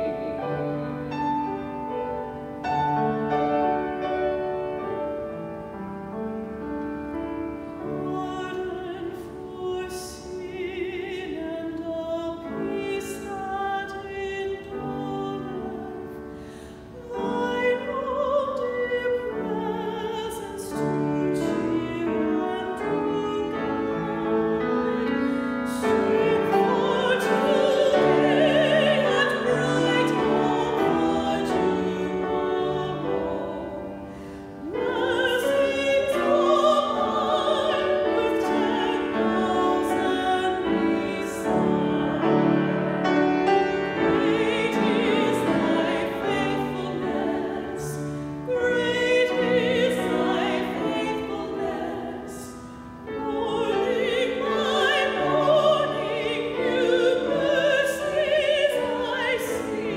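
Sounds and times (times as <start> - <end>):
piano accompaniment: 0.0 - 59.9
women singing a hymn: 0.0 - 59.9.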